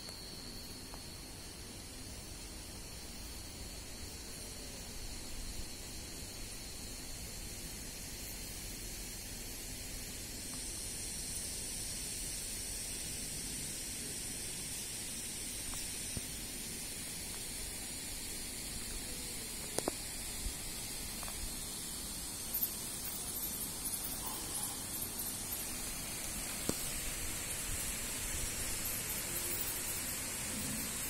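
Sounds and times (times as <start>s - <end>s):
steady outdoor hiss: 0.0s - 31.0s.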